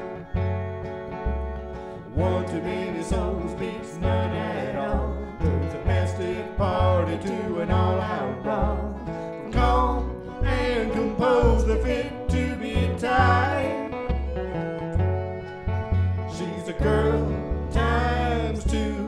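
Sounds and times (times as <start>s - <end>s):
country song with guitar and bass: 0.0s - 19.0s.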